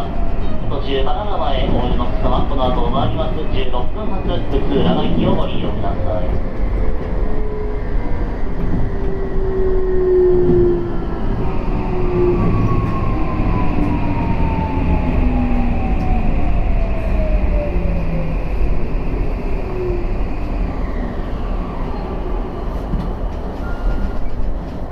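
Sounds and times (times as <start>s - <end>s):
wheels rumbling on track: 0.0s - 24.9s.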